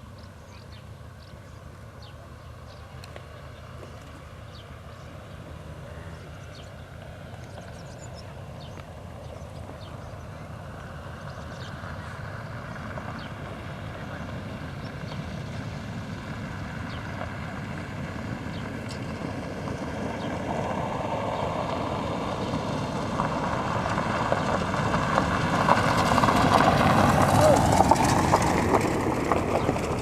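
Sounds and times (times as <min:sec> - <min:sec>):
diesel locomotive rumble: 0:00.0 - 0:30.0.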